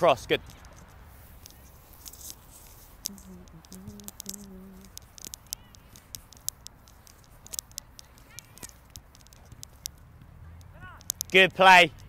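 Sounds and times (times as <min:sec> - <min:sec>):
sharp ticks: 0:00.3 - 0:12.0.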